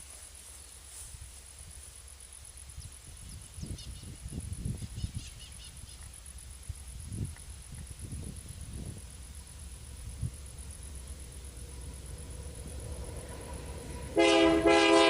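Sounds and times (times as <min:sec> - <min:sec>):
insect pulsing trill: 0:00.0 - 0:14.2.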